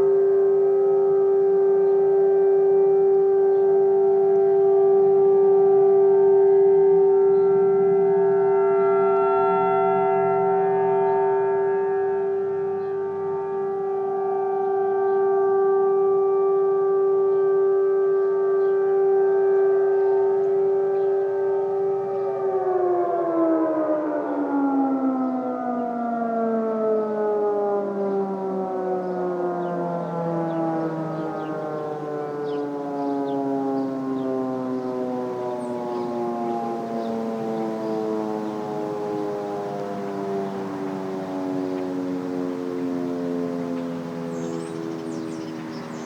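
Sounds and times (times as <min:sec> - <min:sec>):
warning sirens: 0:00.0 - 0:46.0.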